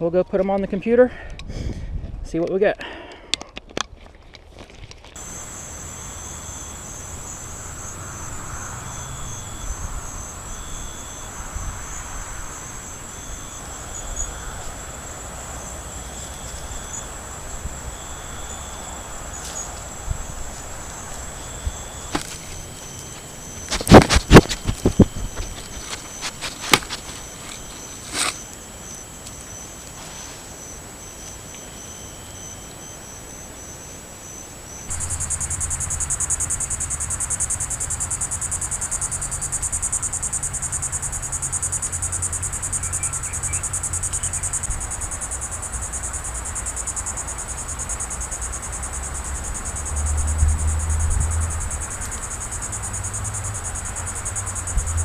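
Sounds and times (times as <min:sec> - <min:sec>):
insects trilling: 0:05.2 - 0:55.0.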